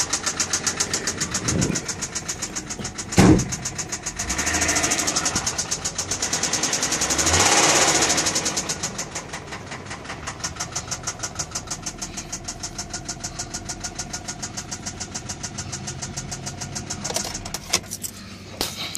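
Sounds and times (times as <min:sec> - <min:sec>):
rapid engine knocking: 0:00.0 - 0:17.7
car engine idling: 0:00.0 - 0:18.9.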